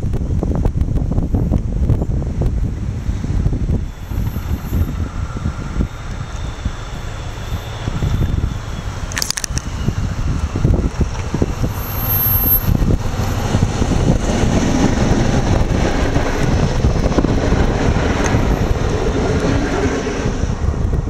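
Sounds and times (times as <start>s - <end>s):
coach wheels rumbling over rails: 0.0s - 21.0s
diesel locomotive running past: 2.7s - 21.0s.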